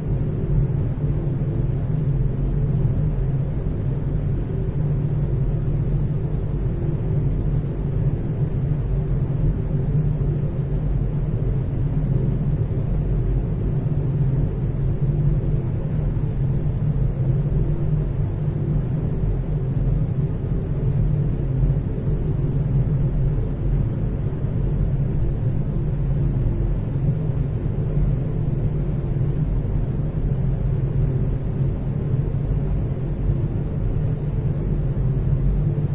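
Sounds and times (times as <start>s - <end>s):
ventilation rumble and hum: 0.0s - 35.9s.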